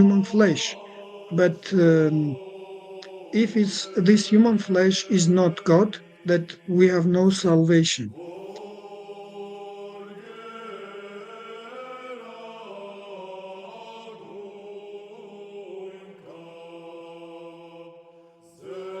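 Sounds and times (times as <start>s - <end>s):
gliding chanted vocal melody: 0.0s - 19.0s
low vocal drone: 0.0s - 19.0s.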